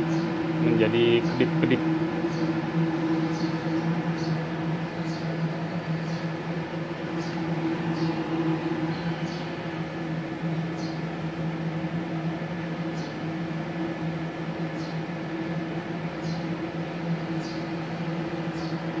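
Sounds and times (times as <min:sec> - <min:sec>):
welding machine fan hum: 0:00.0 - 0:19.0.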